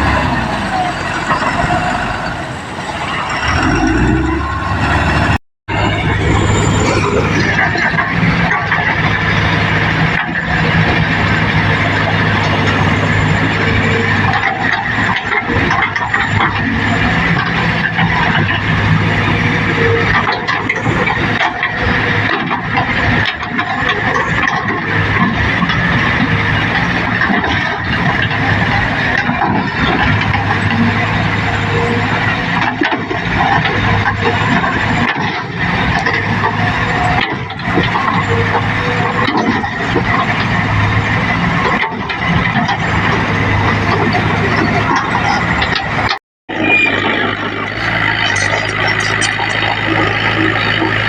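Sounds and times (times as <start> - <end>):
bulldozer diesel engine humming: 0.0 - 51.0
steel tracks clanking: 0.0 - 51.0.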